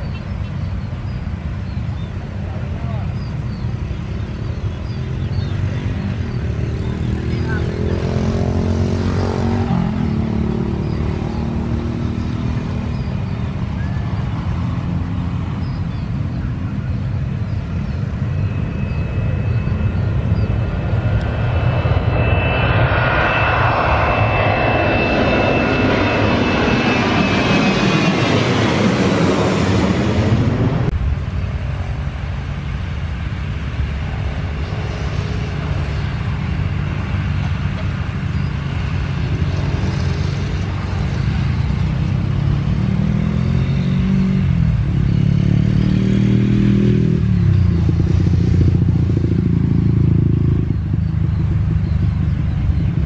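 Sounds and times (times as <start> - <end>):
jet airliner taking off: 0.0 - 53.0
road vehicle engine hum: 0.0 - 53.0.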